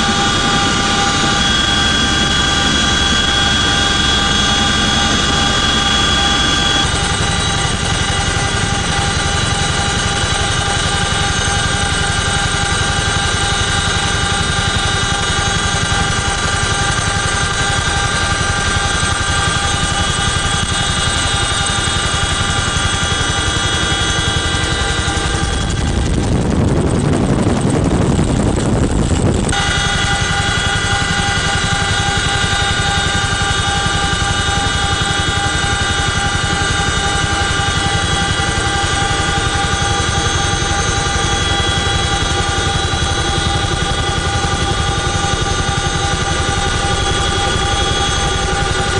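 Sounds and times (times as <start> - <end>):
helicopter rotor and engine: 0.0 - 48.9
low rush of wind: 0.0 - 48.9.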